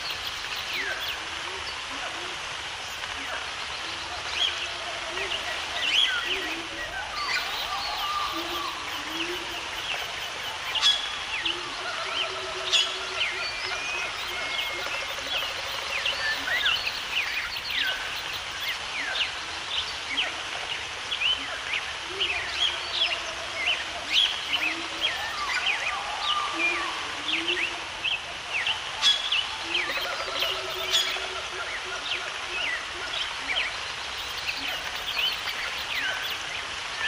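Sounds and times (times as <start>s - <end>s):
birds chirping: 0.0s - 37.0s
steady background hiss: 0.0s - 37.0s.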